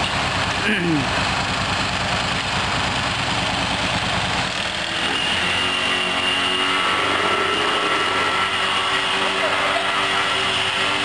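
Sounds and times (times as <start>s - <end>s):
high whine: 0.0s - 11.0s
small gasoline engine running: 0.0s - 11.0s.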